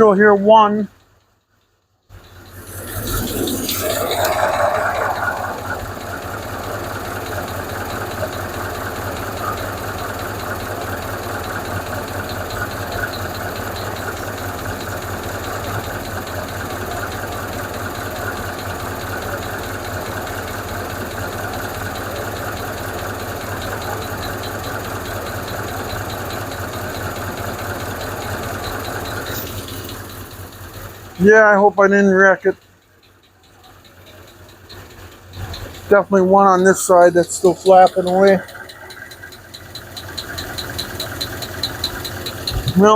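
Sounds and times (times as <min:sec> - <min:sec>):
engine idling: 0:00.0 - 0:42.9
engine lifter ticking: 0:00.0 - 0:42.9.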